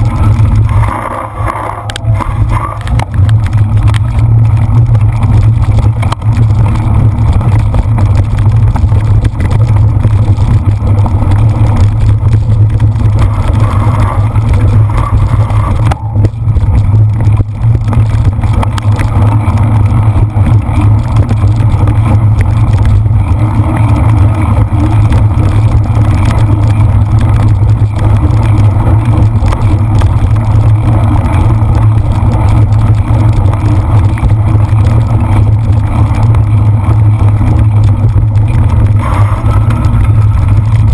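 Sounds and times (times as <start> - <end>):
wind and riding rumble: 0.0 - 40.9.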